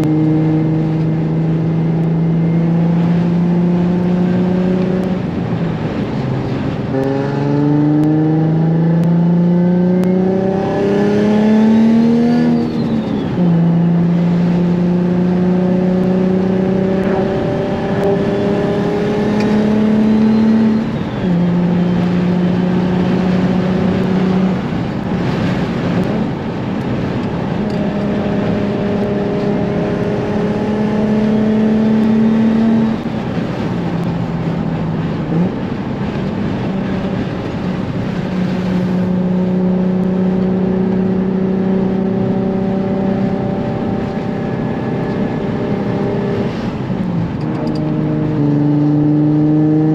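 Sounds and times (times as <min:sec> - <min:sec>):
car engine accelerating through gears: 0:00.0 - 0:49.9.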